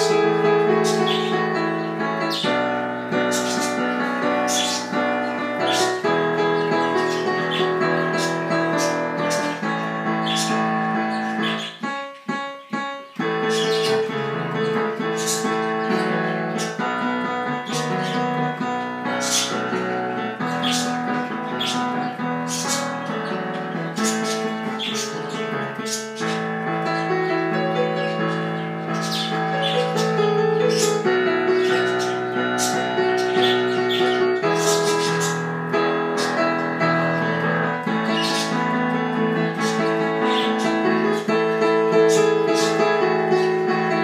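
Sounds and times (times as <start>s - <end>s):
piano playing: 0.0s - 44.0s.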